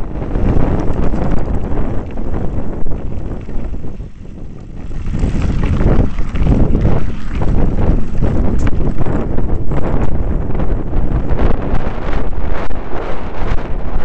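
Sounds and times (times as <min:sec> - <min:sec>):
tyres rumbling on gravel: 0:00.0 - 0:12.4
wind buffeting microphone: 0:00.0 - 0:14.0.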